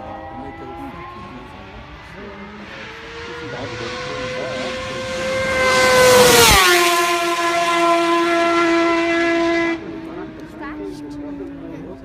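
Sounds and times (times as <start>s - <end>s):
racing motorcycle passing: 0.0s - 12.0s.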